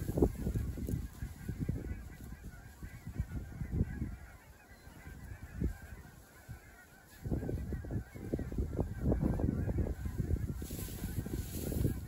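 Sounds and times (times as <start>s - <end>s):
distant geese honking: 0.0s - 12.0s
wind buffeting the microphone: 0.0s - 12.0s.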